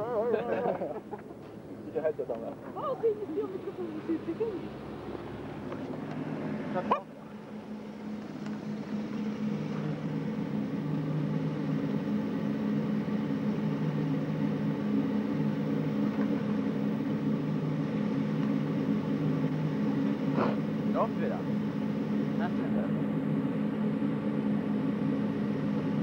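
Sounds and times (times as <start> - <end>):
car engine humming: 0.0 - 26.0.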